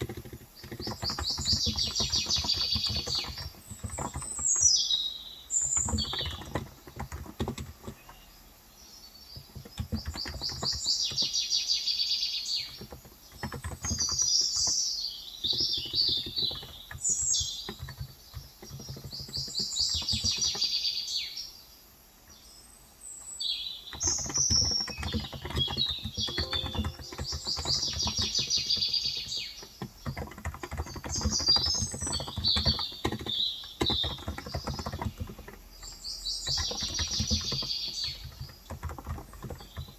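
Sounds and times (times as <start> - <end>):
keyboard typing: 0.0 - 4.9, 5.5 - 8.3, 9.3 - 11.4, 12.5 - 20.8, 23.9 - 39.9.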